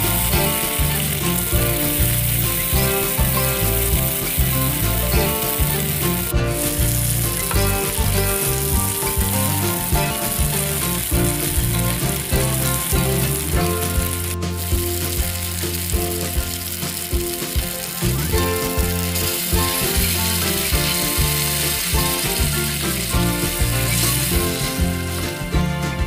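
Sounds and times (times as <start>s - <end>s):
background music with bass: 0.0s - 26.0s
curry sizzling in frying pan: 0.0s - 26.0s.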